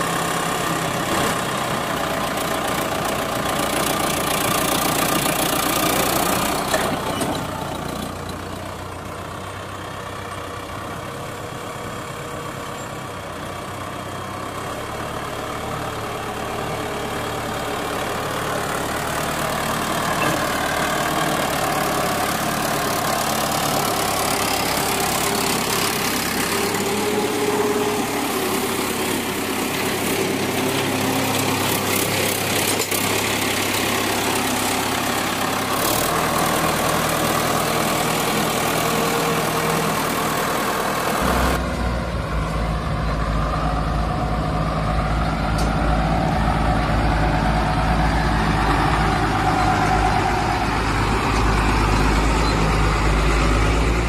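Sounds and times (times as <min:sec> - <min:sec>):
deep heavy engine rumble: 0:00.0 - 0:54.0
vehicle engine idling: 0:00.0 - 0:54.0.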